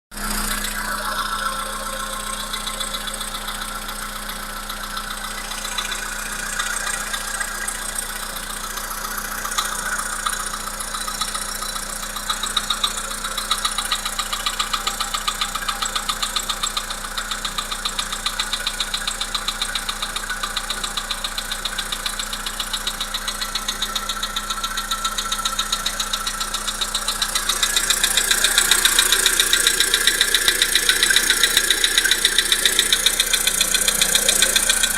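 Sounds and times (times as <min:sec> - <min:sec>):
petrol engine knocking: 0:00.1 - 0:34.9.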